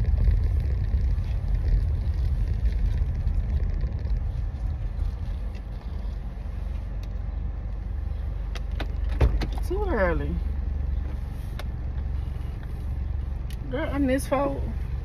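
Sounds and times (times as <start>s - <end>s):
car engine rumble inside cabin: 0.0s - 15.0s.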